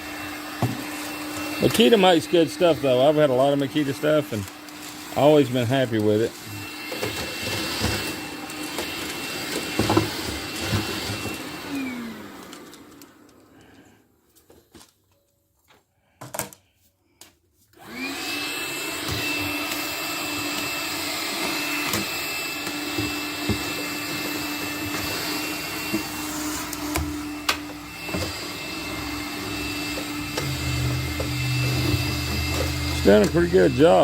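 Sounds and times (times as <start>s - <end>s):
cordless vacuum motor whine: 0.0s - 13.9s, 17.8s - 34.0s.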